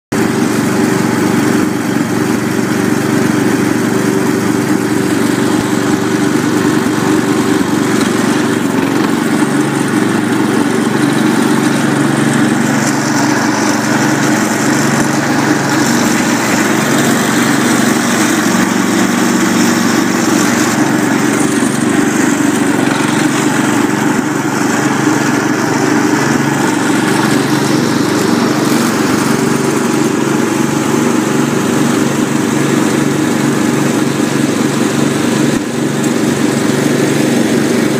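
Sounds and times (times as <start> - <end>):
garden tractor engines running: 0.1 - 37.9.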